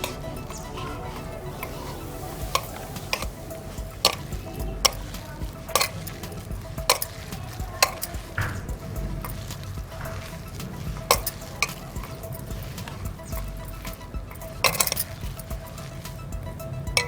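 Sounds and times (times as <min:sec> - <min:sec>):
hand mixing food in a bowl: 0:00.0 - 0:17.0.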